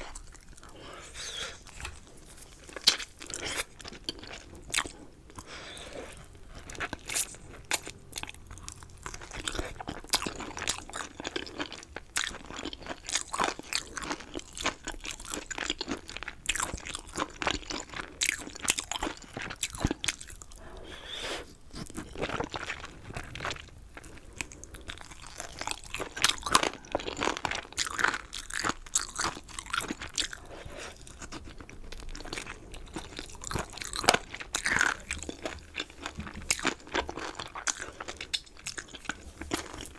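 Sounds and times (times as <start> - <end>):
crunching and chewing chicken: 0.0 - 39.9.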